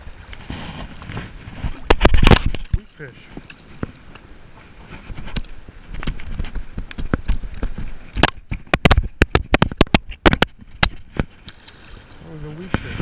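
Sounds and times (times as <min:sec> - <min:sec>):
fish knocks and slaps: 0:00.0 - 0:04.0, 0:05.0 - 0:13.0.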